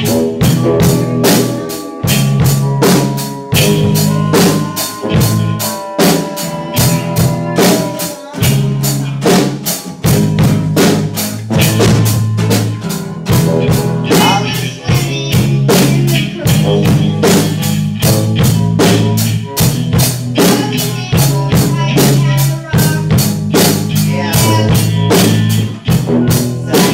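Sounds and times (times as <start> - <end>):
drum kit beat: 0.0 - 26.9
electric guitar: 0.0 - 26.9
sustained bass notes: 0.0 - 26.9.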